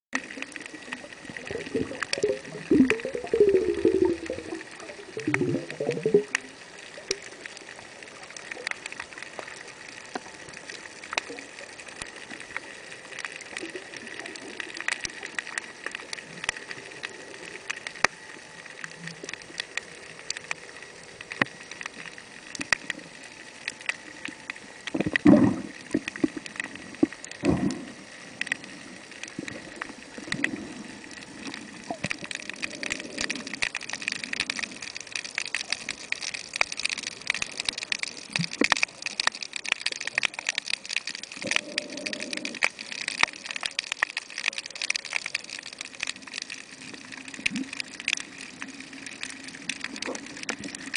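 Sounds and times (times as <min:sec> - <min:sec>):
underwater clicks and crackles: 0:00.1 - 0:50.9
low underwater gurgling: 0:00.2 - 0:07.5, 0:11.1 - 0:50.9.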